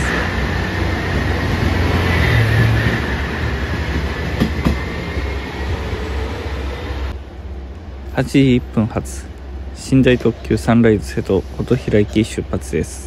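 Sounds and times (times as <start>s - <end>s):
diesel railcar engine hum: 0.0s - 13.0s.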